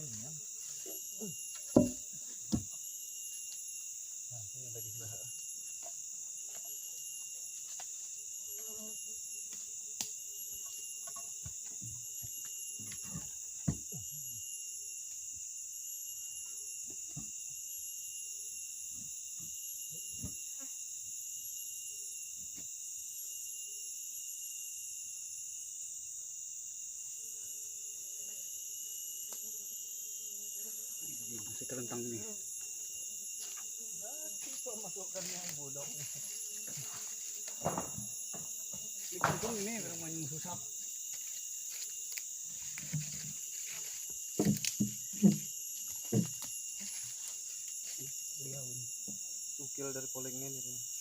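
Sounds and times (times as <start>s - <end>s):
shrill insect chorus: 0.0s - 51.0s.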